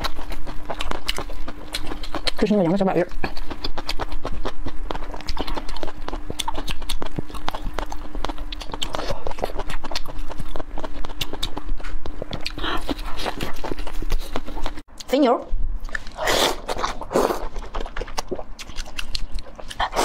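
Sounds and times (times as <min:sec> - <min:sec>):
wet chewing and smacking: 0:00.0 - 0:15.1, 0:15.8 - 0:20.0
faint steady hum: 0:00.0 - 0:20.0.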